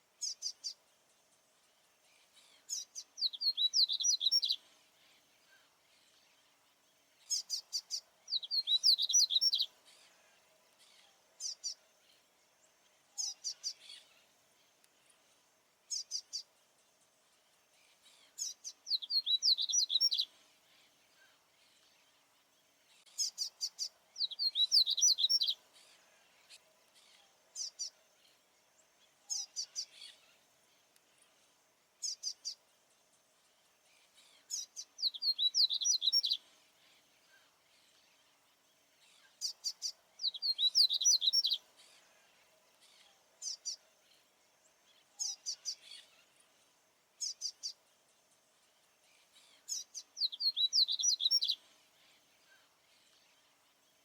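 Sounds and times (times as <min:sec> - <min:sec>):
bird singing: 0:00.2 - 0:54.0.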